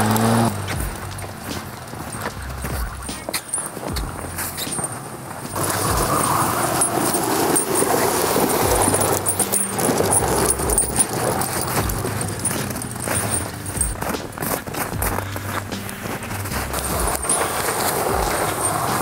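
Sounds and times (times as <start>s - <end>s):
tire chains jingling and clinking: 0.0s - 19.0s.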